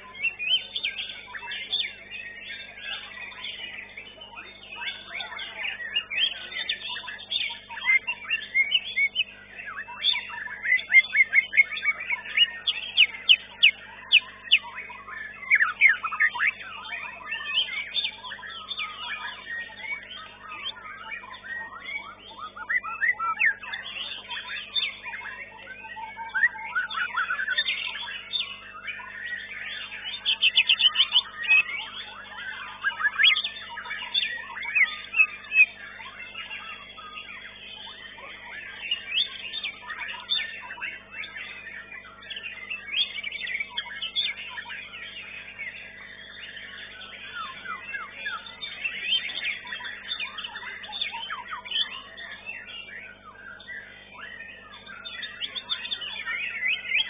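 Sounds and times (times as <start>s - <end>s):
bird singing: 0.0s - 57.0s
faint steady hum: 0.0s - 57.0s.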